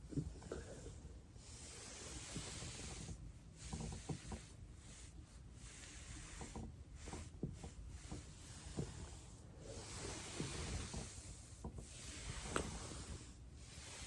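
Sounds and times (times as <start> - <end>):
body rubbing on foam roller: 0.0 - 14.0.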